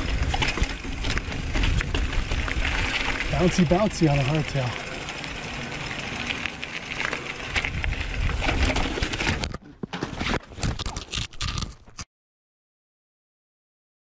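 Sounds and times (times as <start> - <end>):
mountain bike rattling on rocky trail: 0.0 - 12.0.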